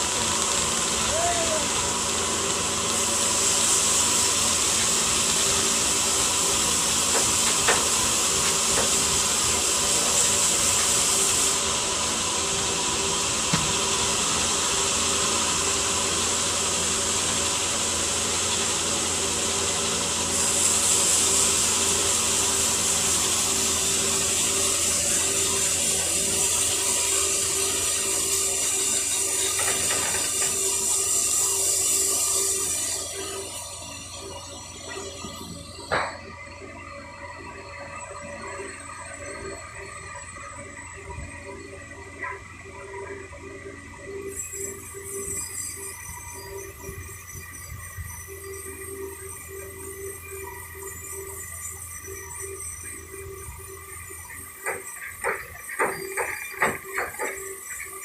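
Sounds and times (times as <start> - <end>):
crane diesel engine humming: 0.0 - 58.0
high hydraulic hiss: 0.6 - 36.2, 44.2 - 58.0.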